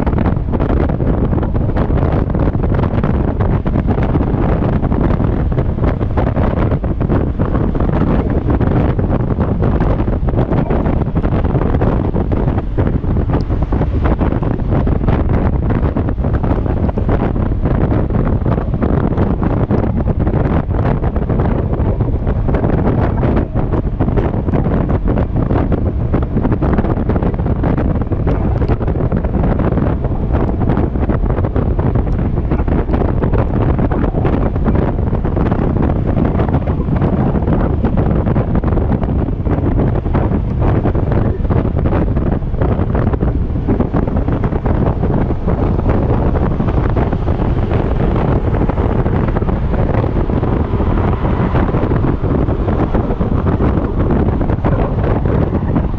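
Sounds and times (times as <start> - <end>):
wind buffeting a microphone: 0.0 - 55.9.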